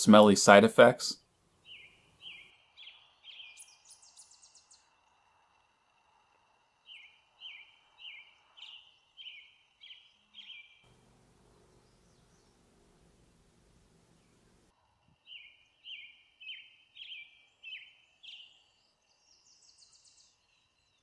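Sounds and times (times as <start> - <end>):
songbird singing: 1.2 - 21.0.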